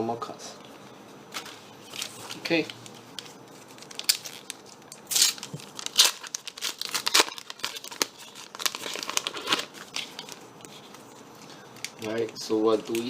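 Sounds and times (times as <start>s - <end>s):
foil wrapper ripping and crackling: 1.9s - 13.0s.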